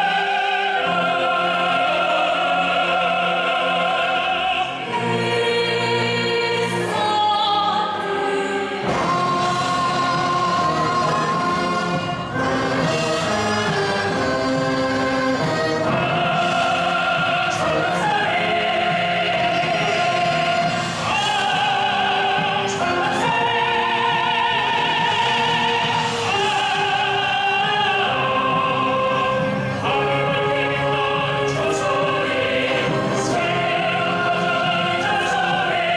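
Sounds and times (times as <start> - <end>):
choir singing: 0.0 - 35.9.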